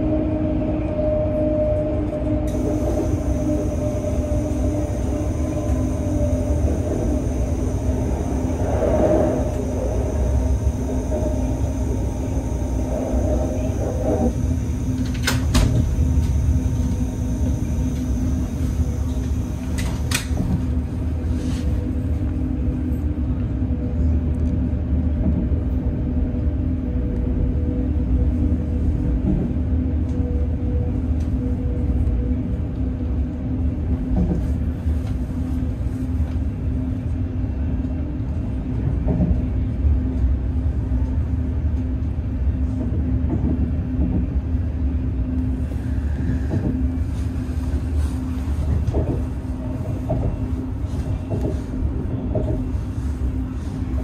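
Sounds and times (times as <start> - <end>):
constant hum: 0.0 - 54.0
train rumble inside carriage: 0.0 - 54.0.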